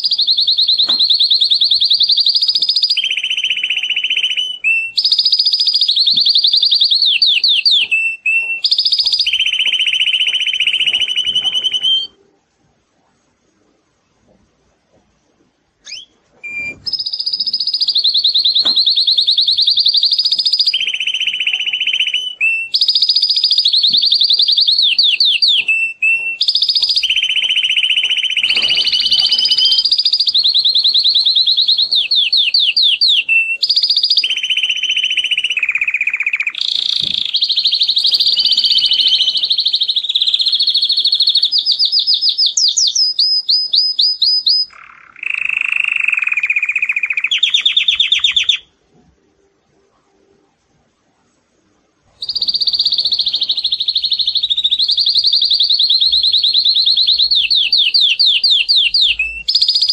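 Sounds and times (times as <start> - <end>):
canary singing rapid trills: 0.0 - 12.2, 15.8 - 48.7, 52.2 - 59.9.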